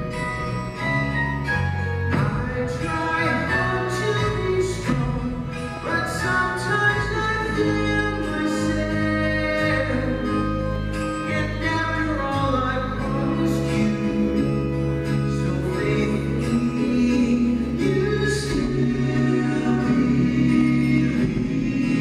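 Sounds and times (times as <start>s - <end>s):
live band with vocal harmonies: 0.0s - 22.0s.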